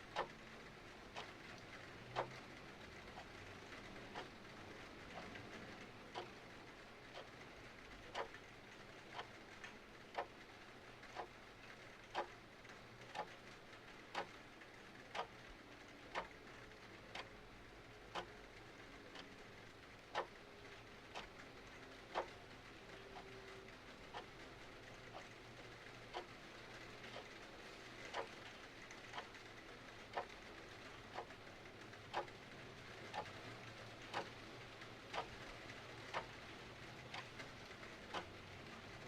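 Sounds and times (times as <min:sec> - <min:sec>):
mechanical clock ticking: 0:00.0 - 0:17.5, 0:18.1 - 0:39.0.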